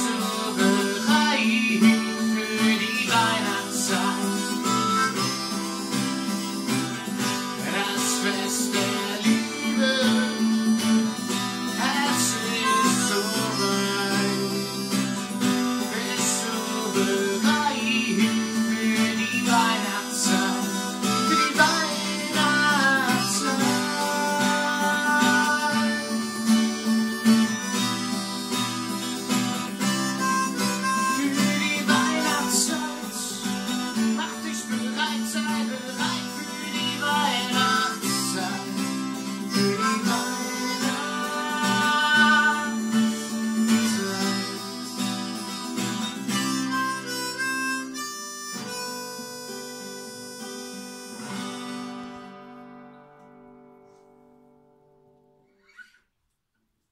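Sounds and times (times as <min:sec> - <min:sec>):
harmonica melody: 0:00.0 - 0:53.2
acoustic guitar: 0:00.0 - 0:56.6.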